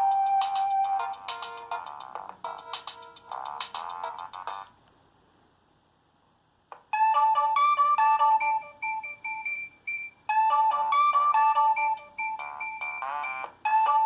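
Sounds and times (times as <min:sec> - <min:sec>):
phone ringtone melody: 0:00.0 - 0:04.7, 0:06.9 - 0:14.0.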